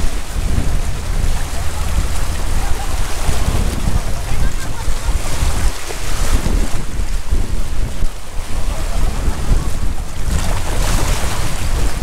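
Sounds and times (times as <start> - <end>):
waves washing on beach: 0.0 - 12.0
wind buffeting microphone: 0.0 - 12.0.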